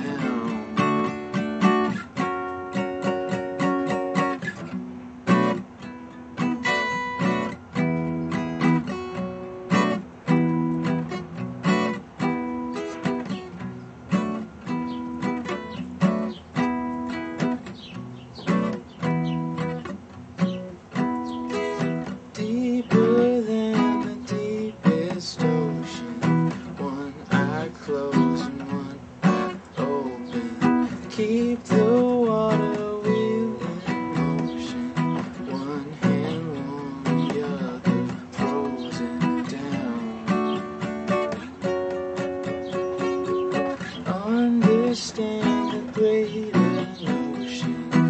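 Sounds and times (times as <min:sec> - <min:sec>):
acoustic guitar strumming: 0:00.0 - 0:48.0.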